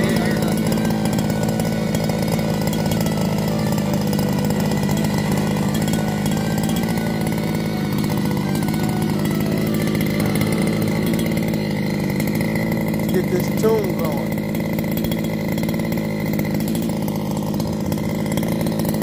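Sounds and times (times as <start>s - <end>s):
small two-stroke engine running: 0.0s - 19.0s.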